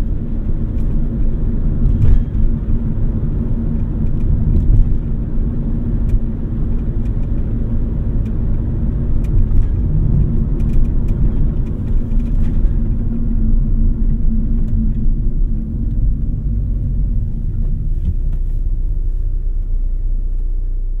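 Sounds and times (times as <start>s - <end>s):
car tyres and engine rumble: 0.0s - 21.0s.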